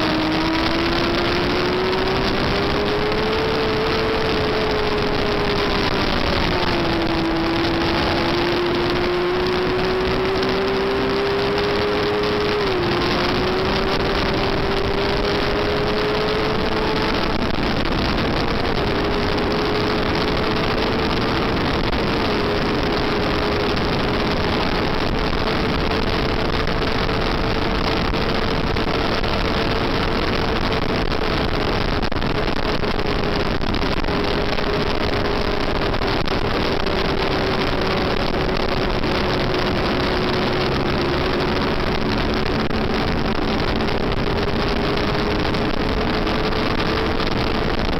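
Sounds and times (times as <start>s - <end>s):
motorcycle engine at high revs: 0.0s - 47.9s
wind rush on microphone: 0.0s - 47.9s.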